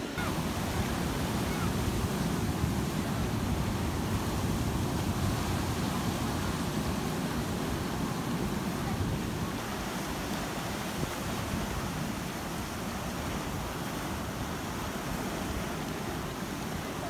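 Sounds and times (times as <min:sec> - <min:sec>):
waves breaking over rocks: 0:00.0 - 0:17.0.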